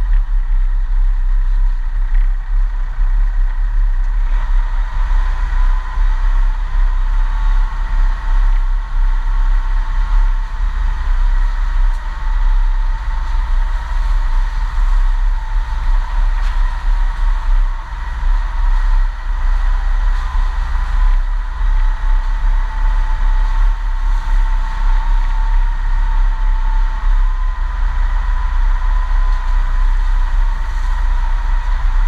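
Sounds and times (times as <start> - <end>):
road noise hiss: 0.0 - 32.0
vehicle low rumble: 0.0 - 32.0.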